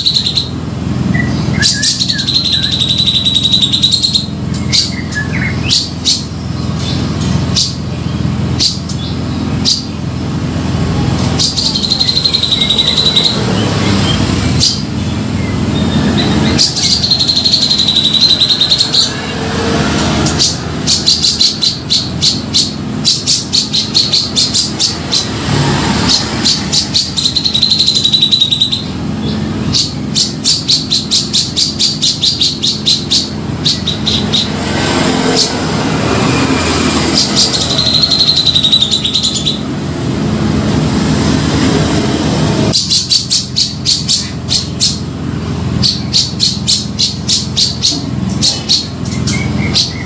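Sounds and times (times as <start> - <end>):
bulbul singing: 0.0 - 50.0.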